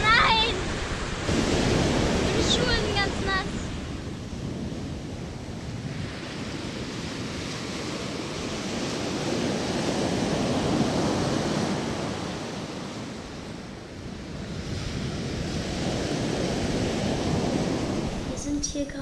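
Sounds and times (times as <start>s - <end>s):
surf breaking on sandy beach: 0.0s - 18.4s.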